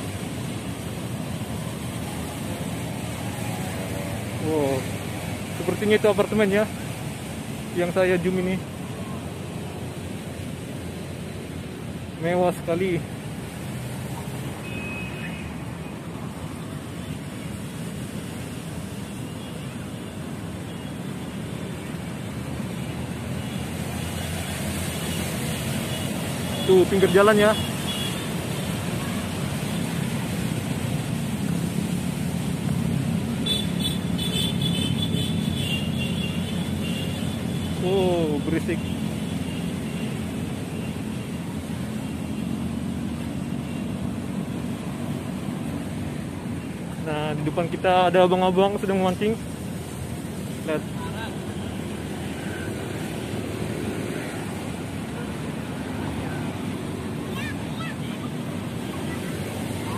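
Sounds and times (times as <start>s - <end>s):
road traffic drone: 0.0s - 59.9s.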